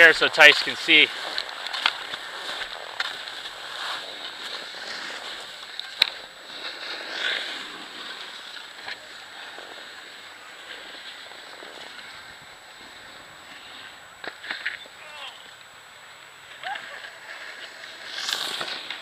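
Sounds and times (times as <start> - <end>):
scraping over packed snow: 0.0 - 15.4, 16.8 - 19.0.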